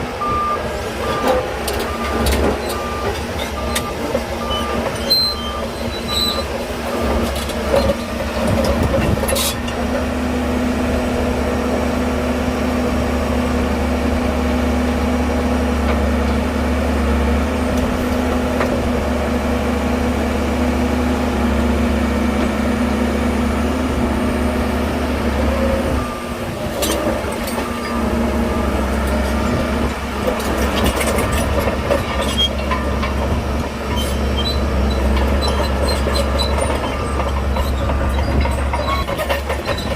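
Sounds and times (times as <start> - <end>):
heavy machinery diesel engine rumbling: 0.0 - 39.9.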